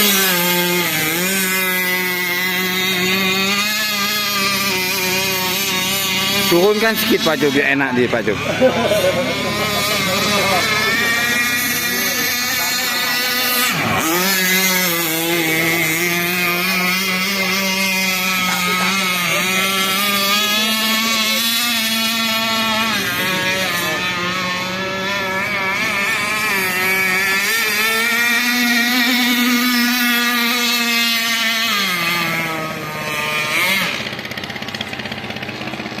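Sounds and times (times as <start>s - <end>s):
model boat motor buzzing: 0.0s - 36.0s.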